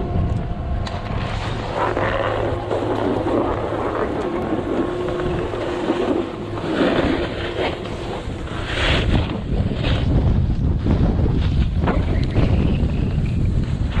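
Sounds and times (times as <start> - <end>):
snowboard scraping over snow: 0.0 - 14.0
steady hum: 0.0 - 14.0
wind on microphone: 0.0 - 14.0.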